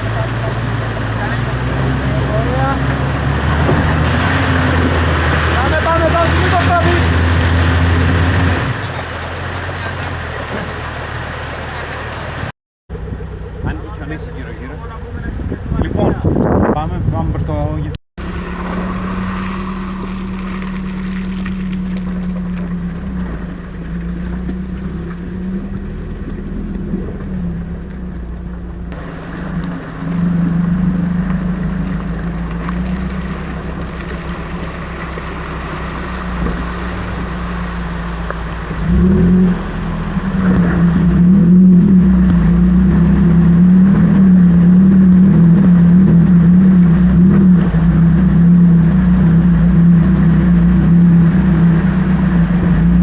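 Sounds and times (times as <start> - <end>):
vehicle engine droning at low speed: 0.0 - 53.0.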